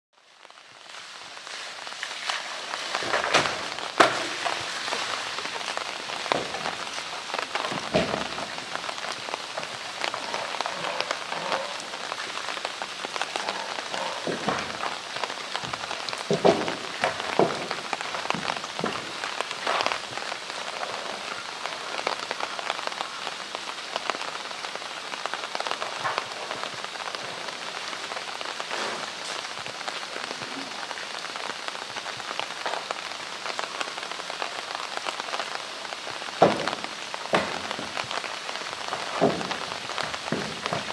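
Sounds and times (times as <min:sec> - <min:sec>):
hiss of falling water: 0:00.2 - 0:40.9.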